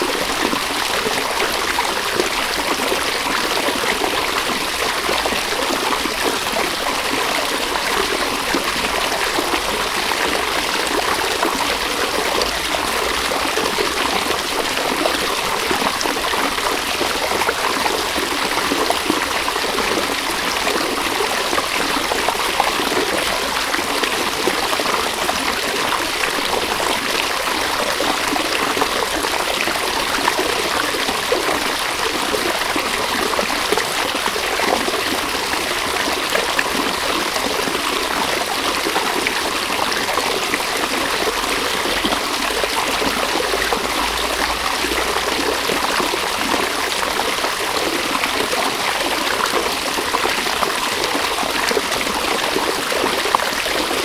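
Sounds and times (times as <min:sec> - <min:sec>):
river water running over stones: 0:00.0 - 0:54.0.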